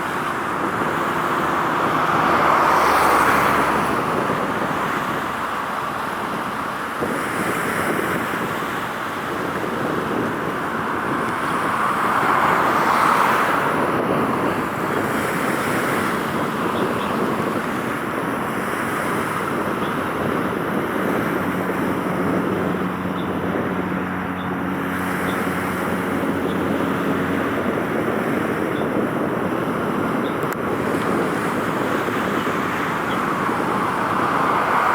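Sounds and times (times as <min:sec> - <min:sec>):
distant road traffic: 0:00.0 - 0:34.9
low engine hum: 0:00.0 - 0:34.9
wind: 0:00.0 - 0:34.9.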